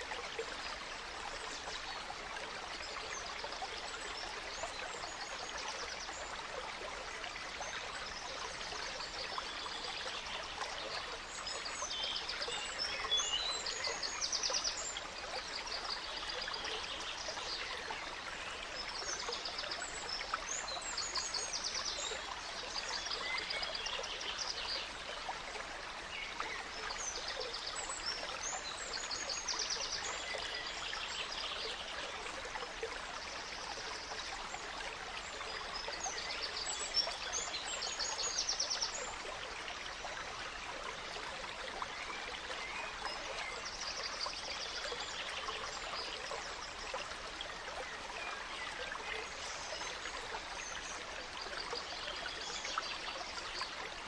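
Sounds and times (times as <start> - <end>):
gentle stream running: 0.0 - 54.0.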